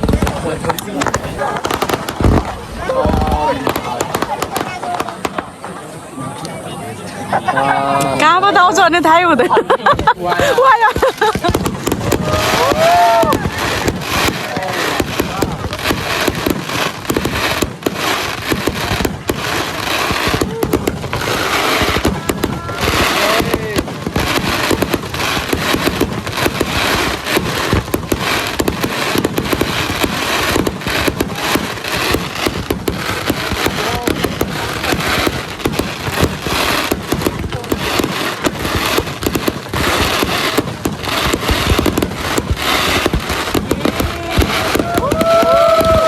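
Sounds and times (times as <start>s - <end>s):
fireworks bangs and crackling: 0.0s - 7.4s, 8.0s - 46.0s.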